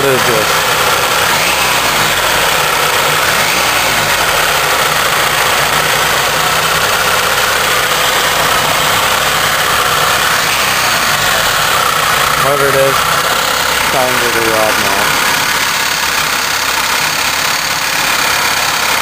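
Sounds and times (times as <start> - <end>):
engine idling with knocking: 0.0 - 19.0.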